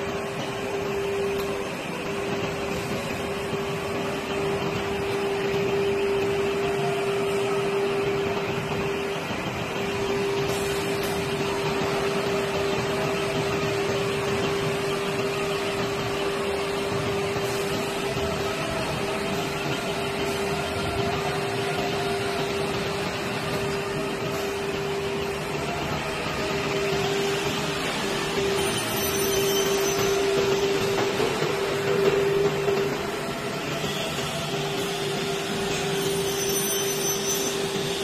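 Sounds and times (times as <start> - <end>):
factory machinery humming: 0.0 - 38.0.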